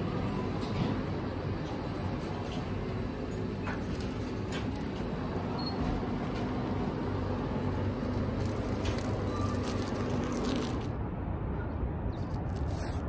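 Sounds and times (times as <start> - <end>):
refrigerator and ventilation hum: 0.0 - 13.0.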